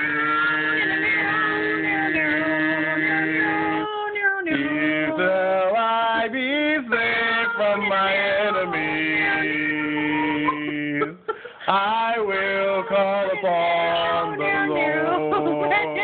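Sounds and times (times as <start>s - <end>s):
man and woman singing unaccompanied: 0.0s - 16.0s.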